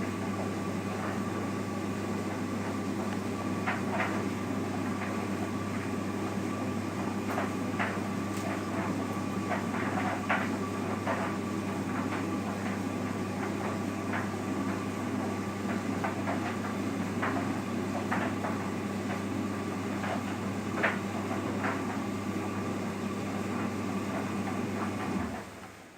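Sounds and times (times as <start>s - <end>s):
tumble dryer running: 0.0s - 25.9s.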